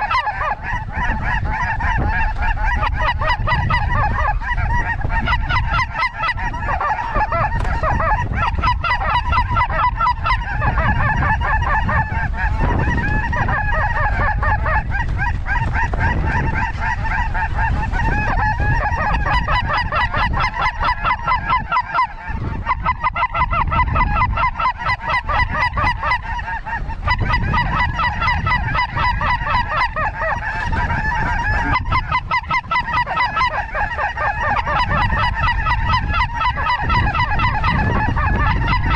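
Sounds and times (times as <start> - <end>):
geese calling: 0.0 - 38.9
wind rumble on microphone: 0.0 - 38.9.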